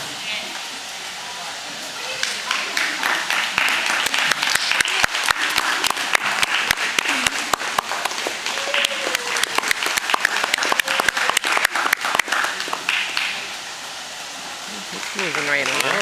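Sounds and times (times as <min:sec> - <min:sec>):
voices: 0:00.0 - 0:13.7, 0:14.6 - 0:16.0
spectators applauding: 0:02.0 - 0:13.8, 0:14.6 - 0:16.0.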